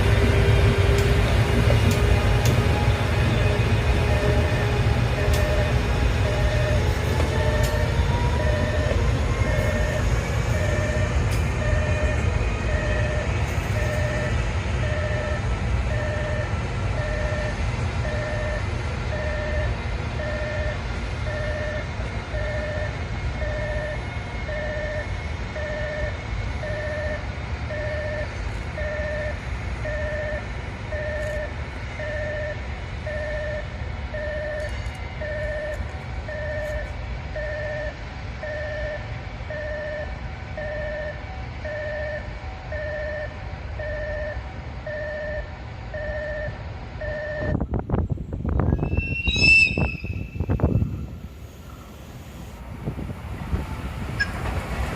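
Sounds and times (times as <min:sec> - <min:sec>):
electric locomotive rumble: 0:00.0 - 0:54.9.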